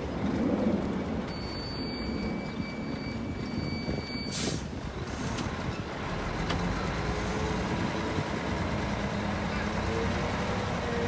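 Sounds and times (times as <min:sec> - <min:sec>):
heavy diesel machinery running: 0:00.1 - 0:11.0.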